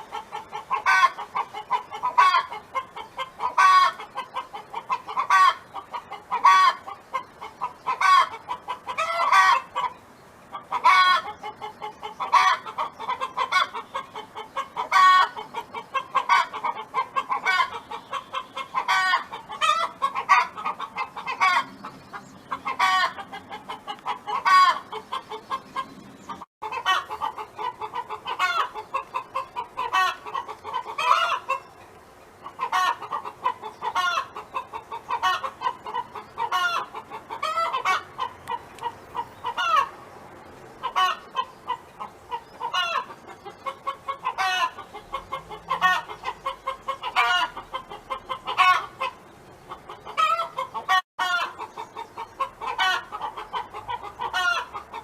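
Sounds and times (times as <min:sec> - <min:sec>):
hen clucking: 0:00.0 - 0:40.0, 0:40.8 - 0:55.0.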